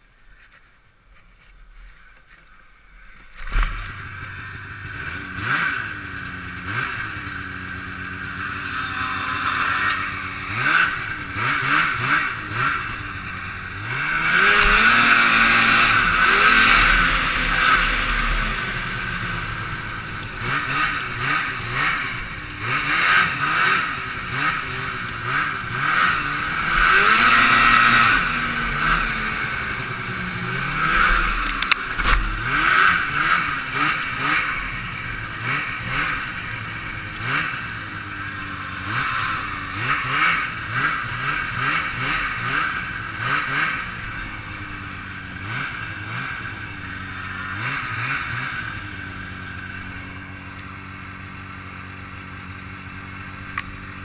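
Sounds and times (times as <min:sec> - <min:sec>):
snowmobile engine revving: 0:01.9 - 0:54.0.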